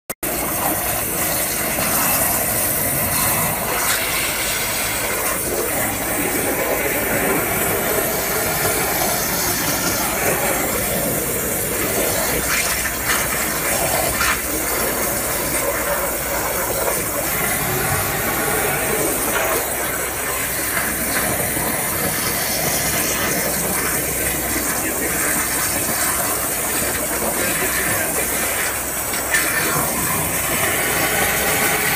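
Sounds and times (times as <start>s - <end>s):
water jet hissing: 0.2s - 31.9s.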